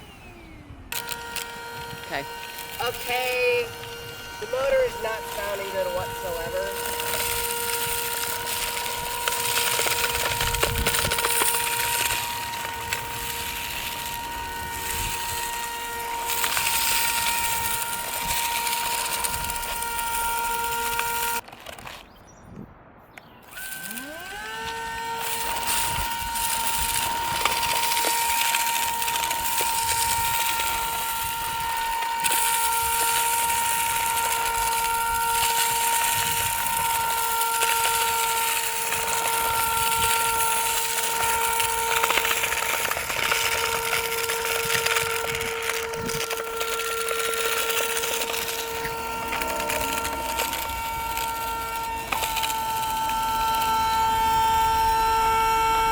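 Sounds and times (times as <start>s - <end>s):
vacuum motor whining: 0.0s - 22.2s, 23.1s - 55.9s.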